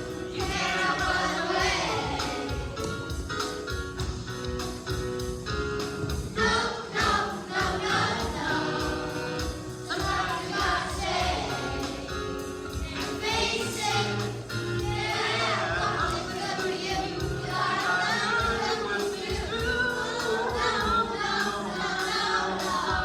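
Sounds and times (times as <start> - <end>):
voices singing: 0.0 - 3.6, 6.2 - 23.0
accompaniment track with steady beat: 0.0 - 23.0.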